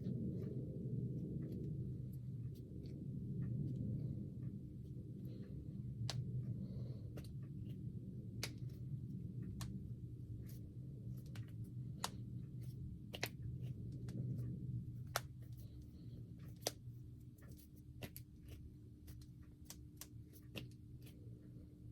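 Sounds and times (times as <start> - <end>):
low background hum: 0.0 - 21.9.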